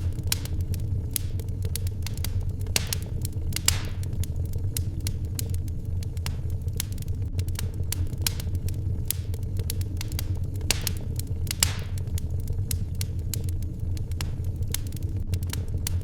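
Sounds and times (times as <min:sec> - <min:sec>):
sharp pops from fire: 0:00.0 - 0:16.0
wood fire crackling: 0:00.0 - 0:16.0.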